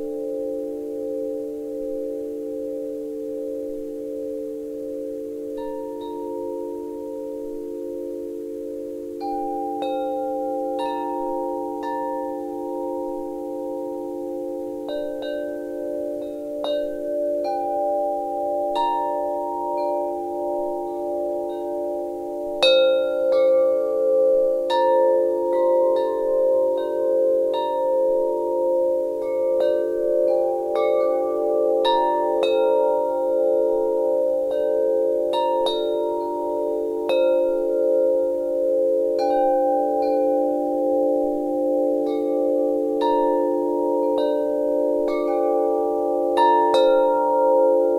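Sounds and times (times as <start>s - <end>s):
wind chimes ringing: 0.0s - 47.9s.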